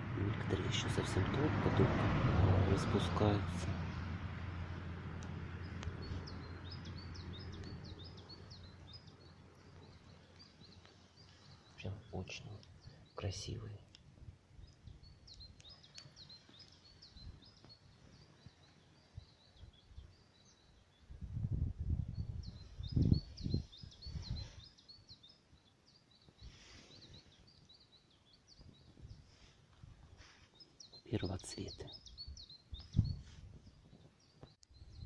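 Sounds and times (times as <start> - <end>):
songbird chirping: 0.0 - 35.0.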